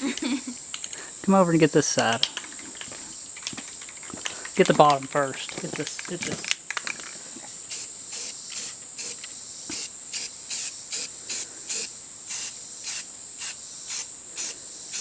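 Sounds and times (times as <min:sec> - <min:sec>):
insect chirping: 0:00.0 - 0:15.0
insects trilling: 0:00.0 - 0:15.0.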